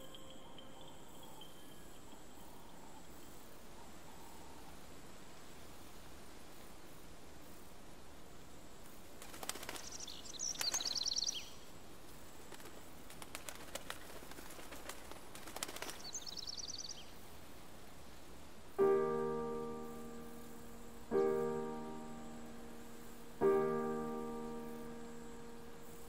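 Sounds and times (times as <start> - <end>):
small birds chirping: 0.0 - 5.1, 8.4 - 26.0
faint background hiss: 0.0 - 26.0.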